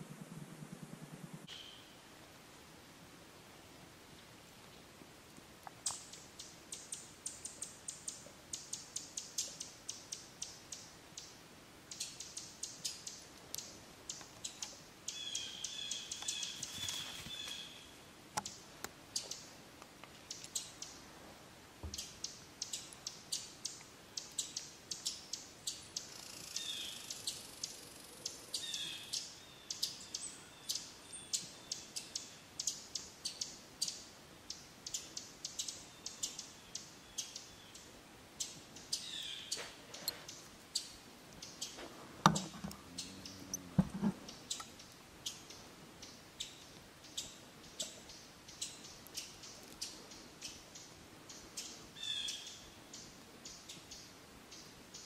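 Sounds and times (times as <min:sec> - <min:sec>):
bird chirps: 0:01.4 - 0:02.0, 0:05.8 - 0:17.9, 0:21.9 - 0:55.0.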